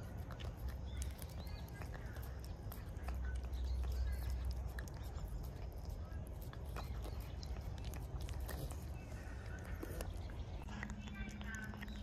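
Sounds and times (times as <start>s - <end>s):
cat licking and smacking: 0.0s - 12.0s.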